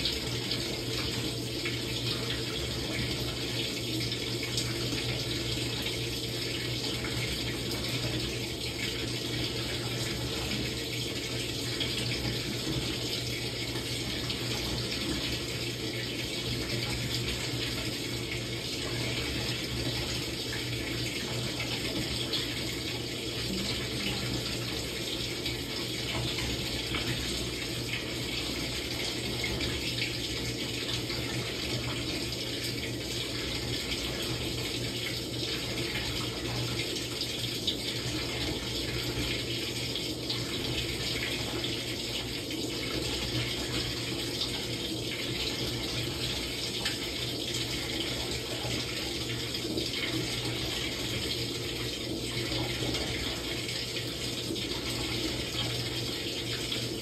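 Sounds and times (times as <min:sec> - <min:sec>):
water running in washing machine: 0:00.0 - 0:57.0.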